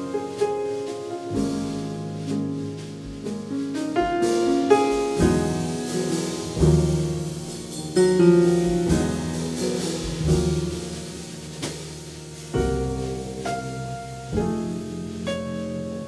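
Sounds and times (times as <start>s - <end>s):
double bass line: 0.0s - 16.0s
drums: 0.0s - 16.0s
piano chords: 0.0s - 16.0s.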